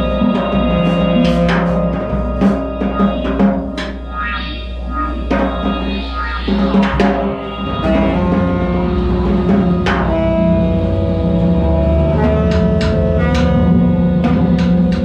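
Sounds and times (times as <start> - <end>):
bowed cello notes: 0.0 - 15.0
drum and cymbal strikes: 0.0 - 15.0.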